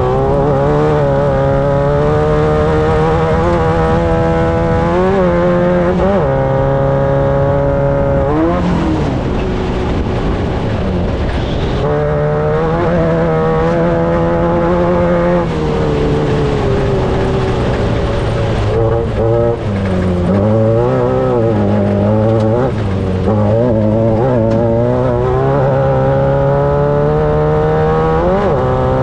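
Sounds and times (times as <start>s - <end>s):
race vehicle engine revving: 0.0s - 29.0s.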